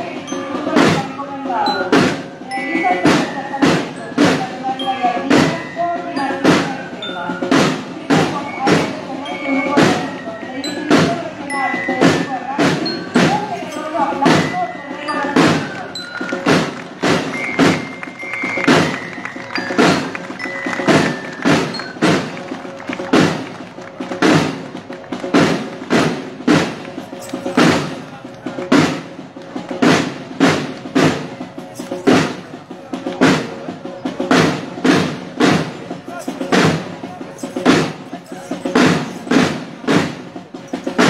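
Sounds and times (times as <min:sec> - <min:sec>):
marching drums: 0:00.0 - 0:41.0
snare drums: 0:00.0 - 0:41.0.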